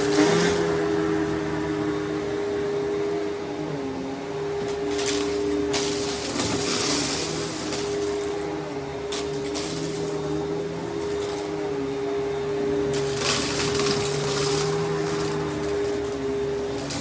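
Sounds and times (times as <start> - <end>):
vacuum cleaner motor hum: 0.0 - 17.0.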